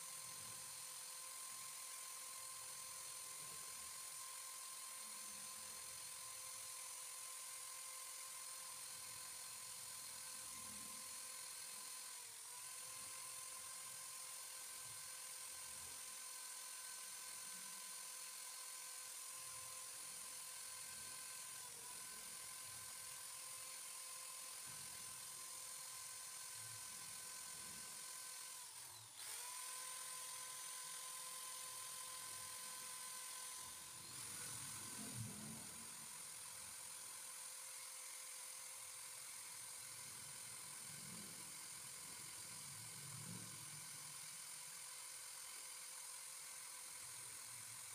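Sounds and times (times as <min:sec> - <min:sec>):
electric drill whining: 0:00.0 - 0:47.9.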